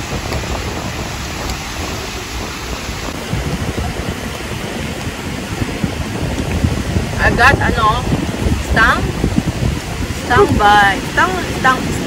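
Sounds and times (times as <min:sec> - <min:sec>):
surf breaking: 0:00.0 - 0:12.0
wind rumbling on microphone: 0:00.0 - 0:12.0.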